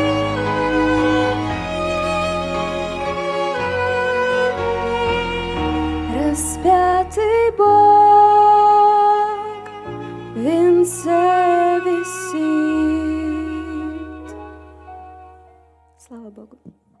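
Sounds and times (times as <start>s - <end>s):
low musical accompaniment: 0.0s - 16.6s.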